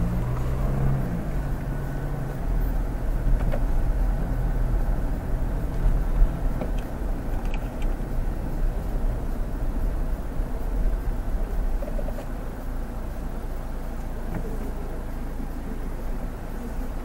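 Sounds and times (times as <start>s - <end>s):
diesel engine running: 0.0s - 17.0s
road and tyre rumble: 0.0s - 17.0s.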